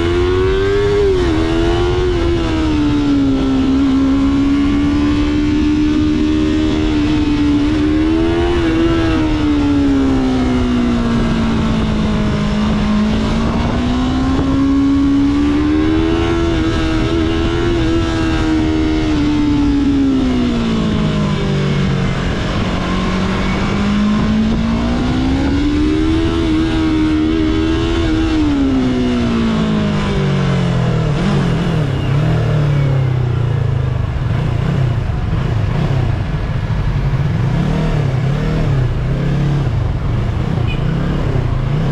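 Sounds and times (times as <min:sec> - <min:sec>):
motorcycle engine revving: 0:00.0 - 0:41.9
wind and road noise: 0:00.0 - 0:41.9.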